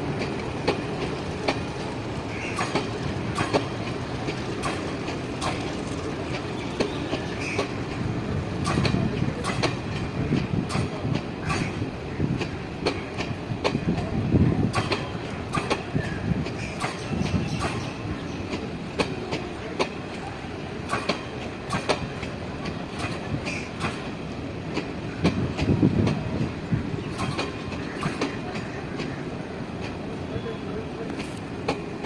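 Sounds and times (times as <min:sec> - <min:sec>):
train wheels clicking over rail joints: 0:00.0 - 0:30.2, 0:31.0 - 0:32.0
train low rumble: 0:00.0 - 0:32.0.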